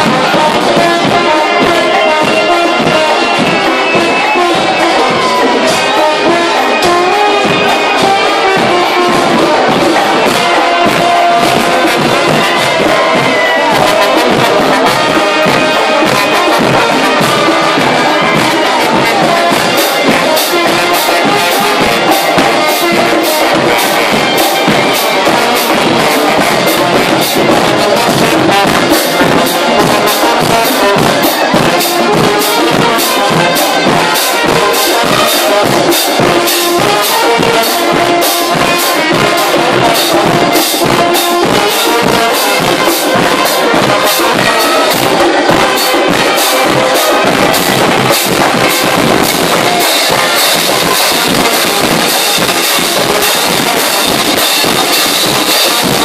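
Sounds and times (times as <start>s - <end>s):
brass marching band playing: 0.0s - 56.0s
drum hits: 0.0s - 56.0s
trombone playing lead: 0.0s - 56.0s.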